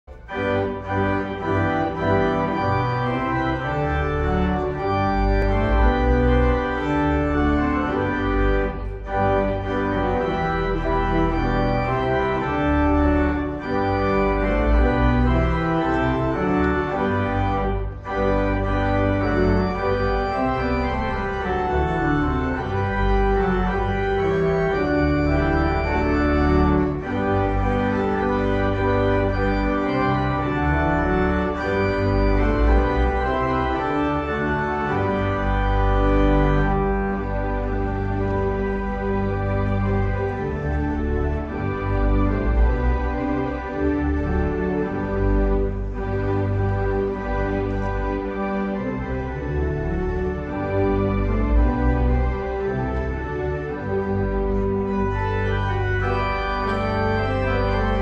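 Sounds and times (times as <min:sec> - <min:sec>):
organ music: 0:00.0 - 0:58.0.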